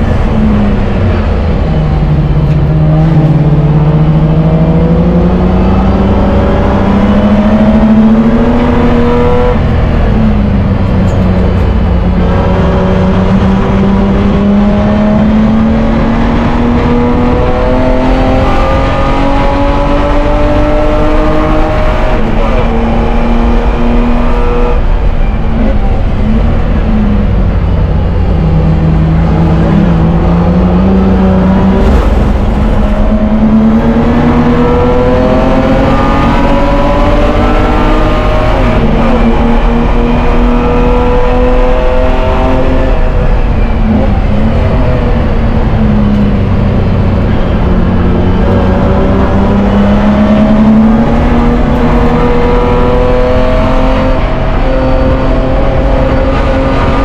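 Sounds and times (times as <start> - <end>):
race car engine accelerating: 0.0 - 57.0
road and wind noise: 0.0 - 57.0.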